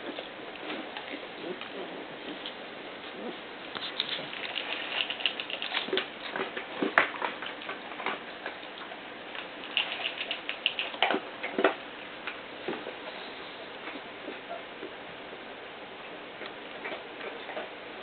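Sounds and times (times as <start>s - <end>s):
puppies moving about: 0.0s - 15.0s.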